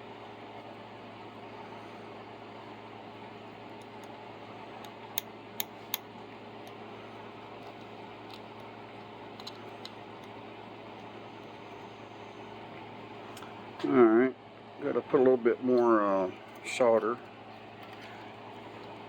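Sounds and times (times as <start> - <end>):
fan-like hum: 0.0 - 19.0.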